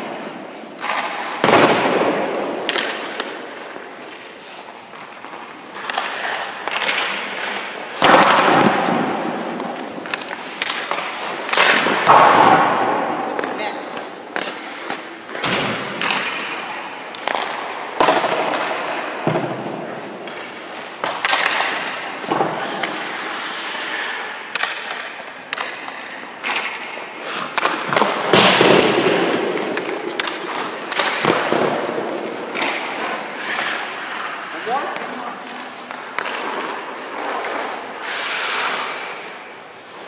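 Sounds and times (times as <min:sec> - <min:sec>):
pucks hitting pads and boards: 0:00.0 - 0:40.0
skates scraping ice: 0:00.0 - 0:40.0.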